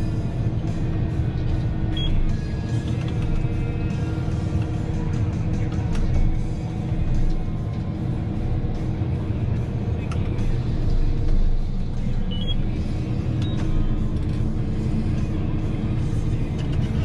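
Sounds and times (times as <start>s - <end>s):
background music: 0.0s - 17.0s
heavy machine engine running: 0.0s - 17.0s.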